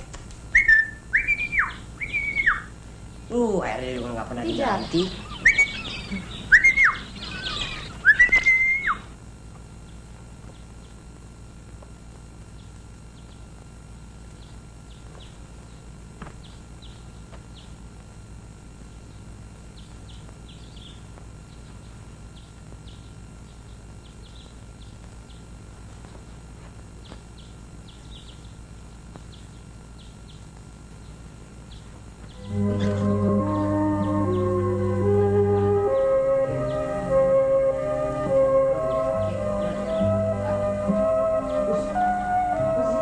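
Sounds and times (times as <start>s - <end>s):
film soundtrack hum and hiss: 0.0s - 43.0s
small birds chirping: 0.0s - 43.0s.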